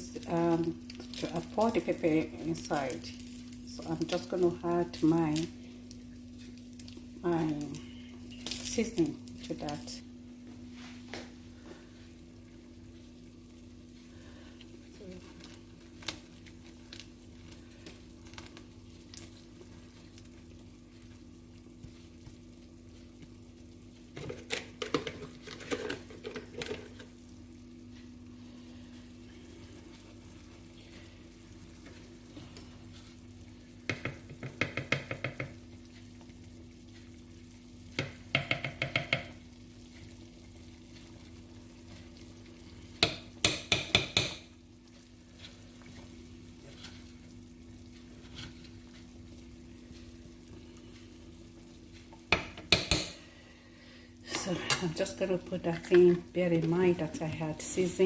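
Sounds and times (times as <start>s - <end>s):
faint sizzling: 0.0s - 58.0s.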